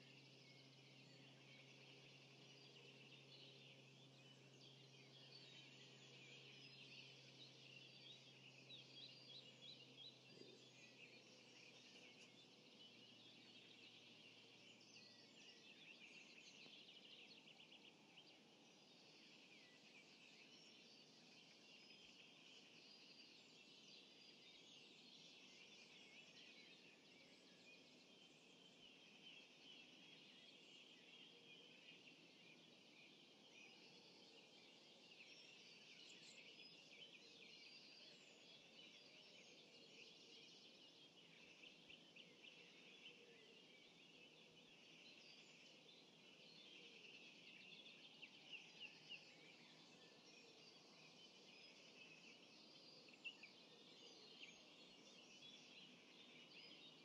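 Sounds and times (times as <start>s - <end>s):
birds singing in chorus: 0.0s - 57.0s.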